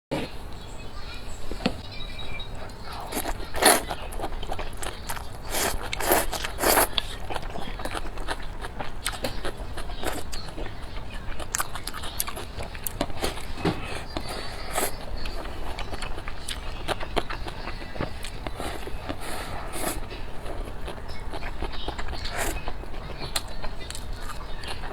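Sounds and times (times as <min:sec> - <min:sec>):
biting and chewing crunchy food: 0:01.6 - 0:24.9.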